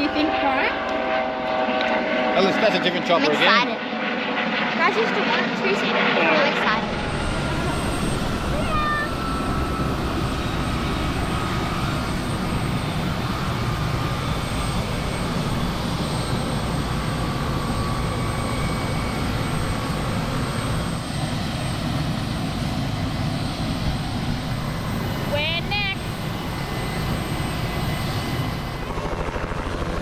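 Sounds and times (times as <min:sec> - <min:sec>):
helicopter rotor and engine: 0:00.0 - 0:30.0.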